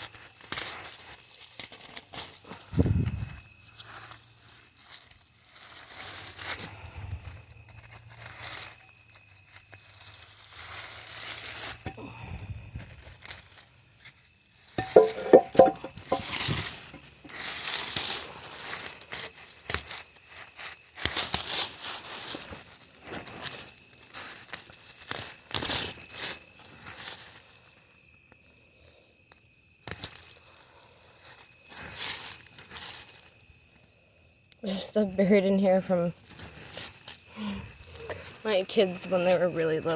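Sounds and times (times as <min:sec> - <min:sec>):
plants and soil rustling: 0:00.0 - 0:28.0, 0:29.8 - 0:33.5, 0:34.6 - 0:39.9
cricket chirping: 0:00.0 - 0:39.9.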